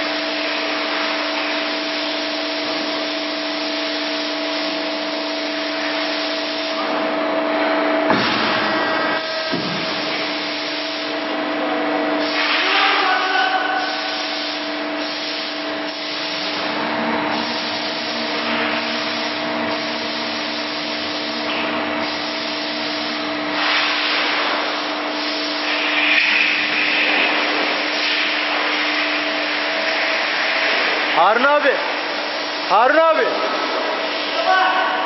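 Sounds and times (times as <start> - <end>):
hydraulic pump humming and hissing: 0.0 - 35.0.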